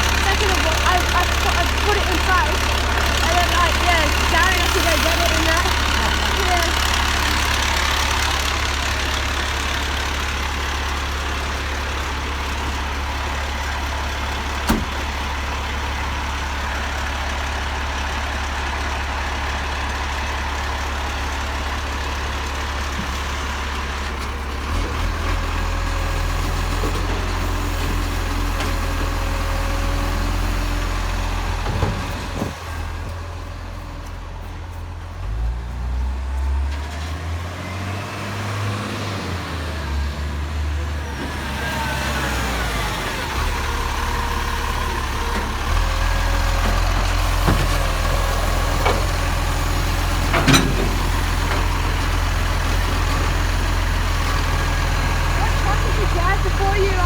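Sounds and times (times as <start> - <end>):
garbage truck engine rumbling: 0.0 - 57.0.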